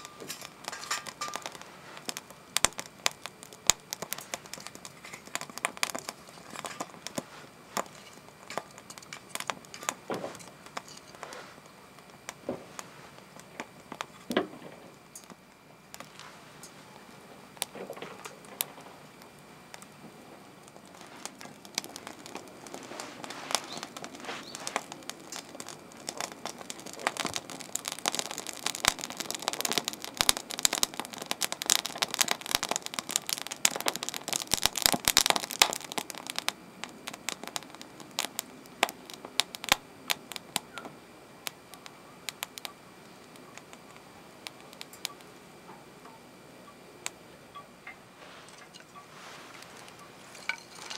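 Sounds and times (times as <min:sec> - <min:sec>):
wood crackling and popping in fire: 0:00.0 - 0:50.9.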